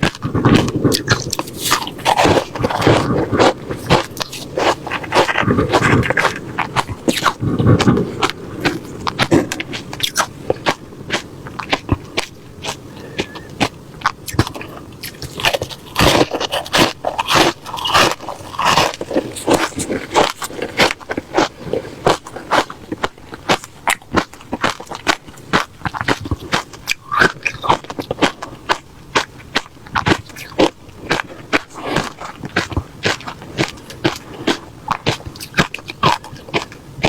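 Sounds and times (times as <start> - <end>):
crushed ice being chewed: 0.0 - 37.0.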